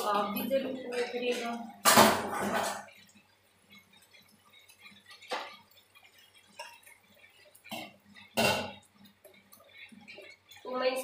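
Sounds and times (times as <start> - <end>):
chutney simmering with bubbles: 0.0 - 11.0.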